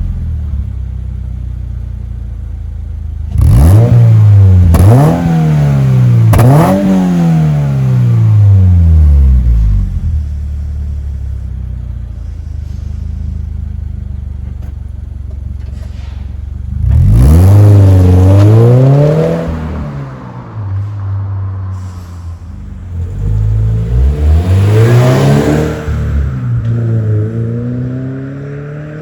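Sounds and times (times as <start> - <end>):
car exhaust idling and revving: 0.0 - 29.0.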